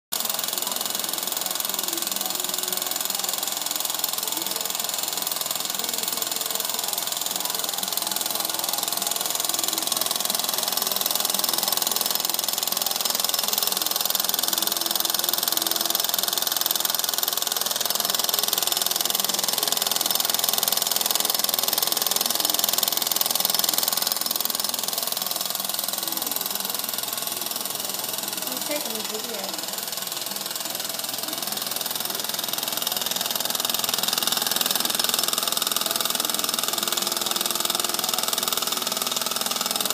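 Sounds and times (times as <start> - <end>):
steam engine mechanical clatter: 0.2 - 39.9.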